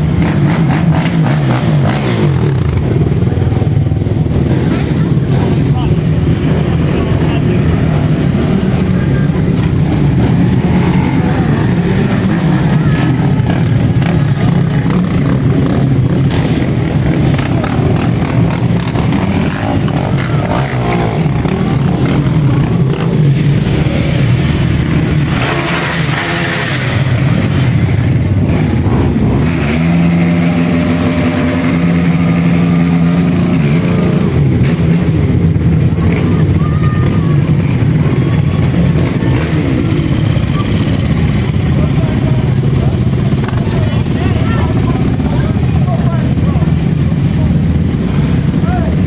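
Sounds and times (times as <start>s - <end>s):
quad bike engines revving: 0.0s - 49.0s.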